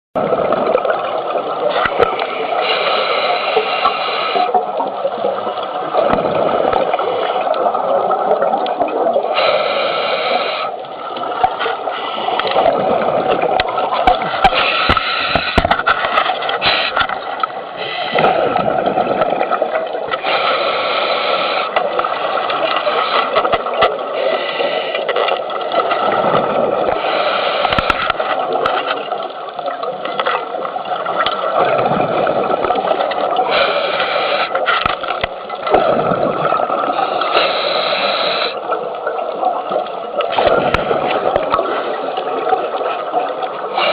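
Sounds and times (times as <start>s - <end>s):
muffled water rushing: 0.2s - 43.9s.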